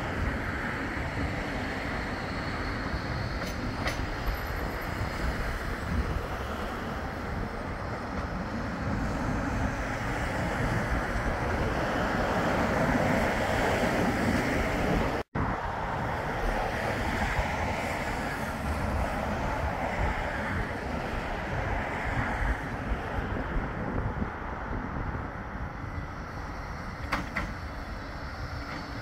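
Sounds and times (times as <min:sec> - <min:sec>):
passing road traffic: 0:00.0 - 0:29.0
wind on microphone: 0:00.0 - 0:29.0.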